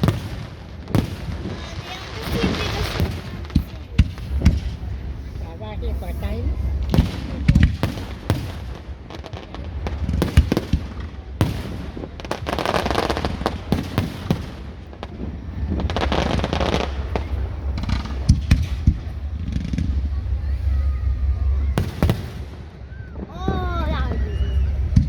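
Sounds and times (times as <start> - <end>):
fireworks bangs: 0.0 - 25.0
fireworks crackling: 0.0 - 25.0.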